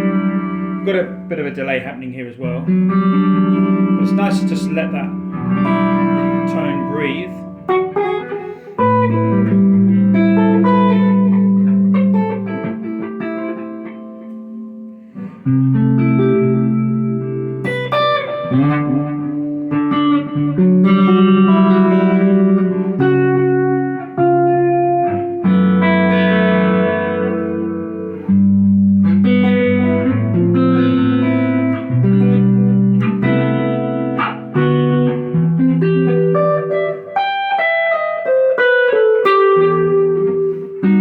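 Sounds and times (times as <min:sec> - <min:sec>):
clean electric guitar chords: 0:00.0 - 0:41.0.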